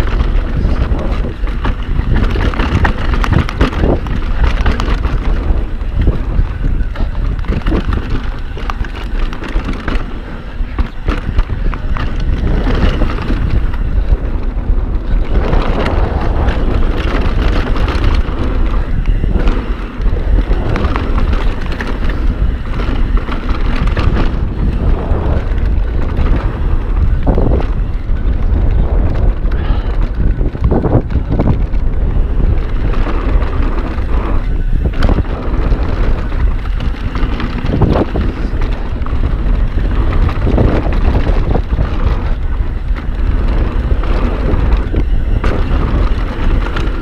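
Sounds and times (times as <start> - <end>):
bike rattling and knocking: 0.0 - 47.0
tyres on dirt: 0.0 - 47.0
wind buffeting microphone: 0.0 - 47.0.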